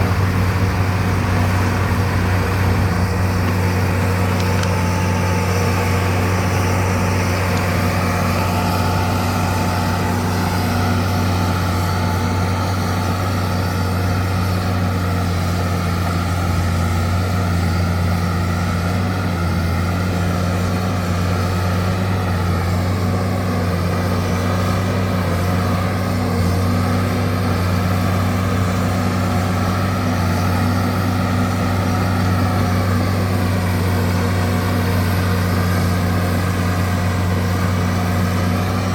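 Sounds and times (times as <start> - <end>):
bulldozer engine running: 0.0 - 38.9.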